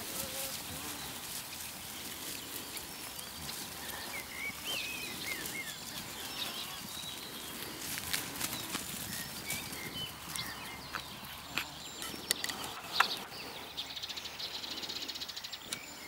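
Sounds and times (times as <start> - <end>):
hooves galloping over grass: 0.0 - 16.0.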